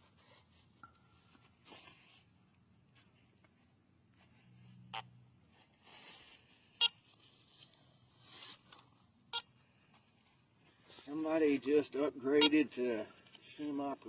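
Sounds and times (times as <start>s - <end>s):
soft rubbing and scraping: 0.0s - 9.1s, 9.8s - 12.1s.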